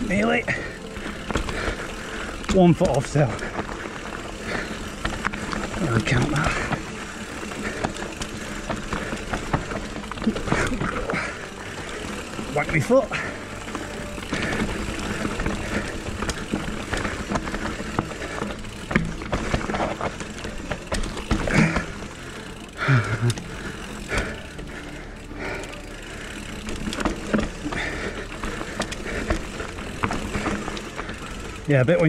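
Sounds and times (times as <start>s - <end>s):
rider grunting: 0.0s - 31.7s
bike frame rattling: 0.0s - 32.0s
tyres crunching over dirt: 0.0s - 32.0s.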